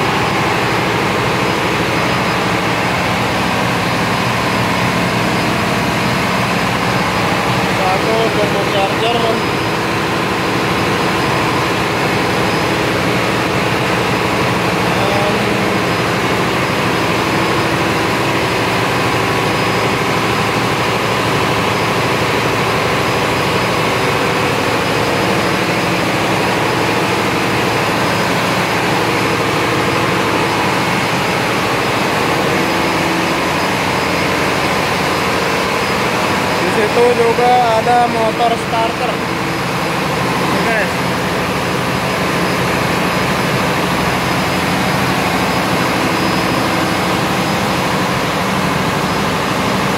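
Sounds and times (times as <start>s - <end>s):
diesel generator running: 0.0s - 49.9s.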